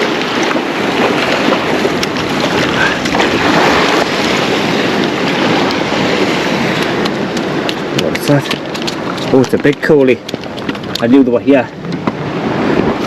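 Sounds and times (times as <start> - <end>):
waves breaking on rocks: 0.0 - 13.0
wind buffeting microphone: 0.0 - 13.0.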